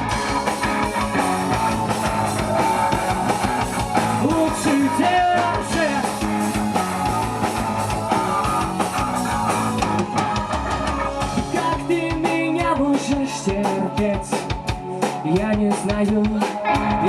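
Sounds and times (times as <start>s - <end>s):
drum kit: 0.0s - 17.0s
electric guitar: 0.0s - 17.0s.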